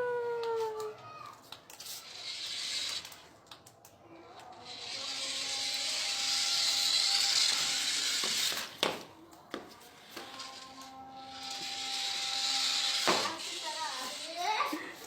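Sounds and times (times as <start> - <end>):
toy car electric motor whirring: 0.0 - 15.0
toy car click: 0.7 - 9.4, 10.0 - 15.0.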